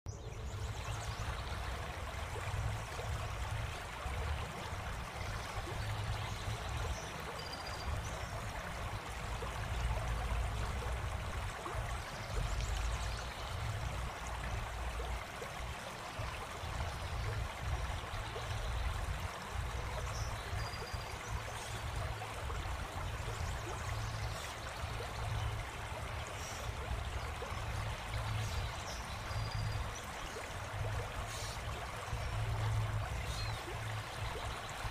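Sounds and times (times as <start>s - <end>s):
continuous rushing hiss: 0.2s - 34.9s.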